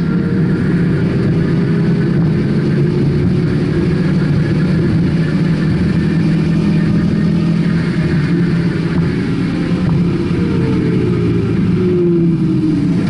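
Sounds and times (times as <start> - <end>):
car engine running hard: 0.0 - 13.0
road noise: 0.0 - 13.0.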